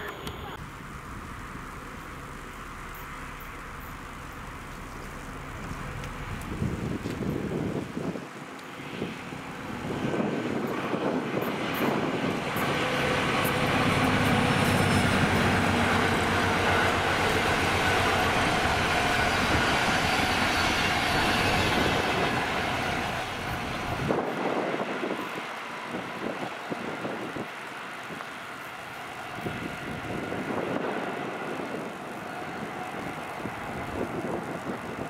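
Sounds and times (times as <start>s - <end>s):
locomotive engine: 0.0s - 35.0s
train wheels on rails: 1.2s - 35.0s.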